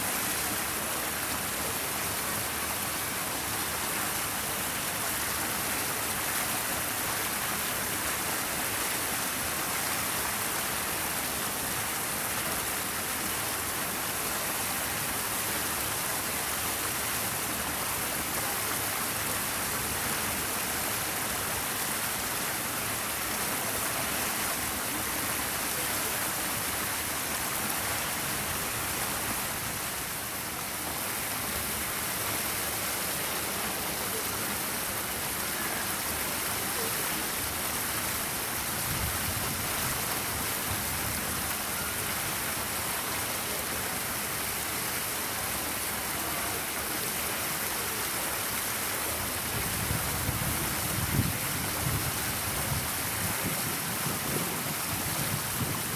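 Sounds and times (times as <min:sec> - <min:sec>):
outdoor background hiss: 0:00.0 - 0:55.9.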